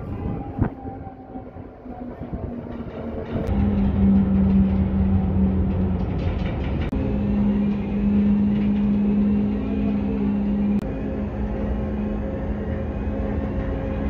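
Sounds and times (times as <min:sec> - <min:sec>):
ferry engines droning: 0:00.0 - 0:14.0.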